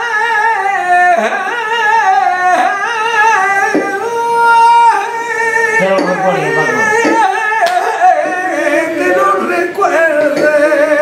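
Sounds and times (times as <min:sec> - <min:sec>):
man singing solo: 0:00.0 - 0:11.0.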